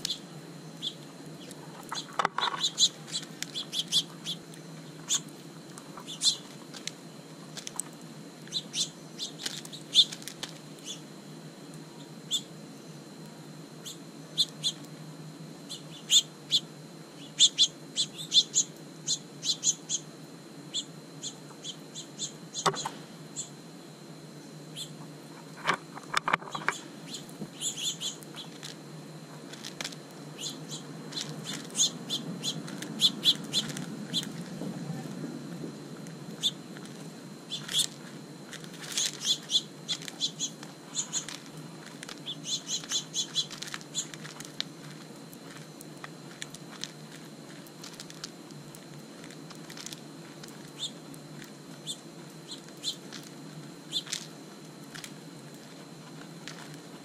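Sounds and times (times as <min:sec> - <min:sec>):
small birds chirping: 0:00.0 - 0:13.0, 0:13.8 - 0:15.0, 0:15.6 - 0:23.6, 0:24.4 - 0:25.0, 0:26.6 - 0:28.8, 0:29.4 - 0:35.1, 0:36.3 - 0:57.0
low background hum: 0:00.0 - 0:57.0.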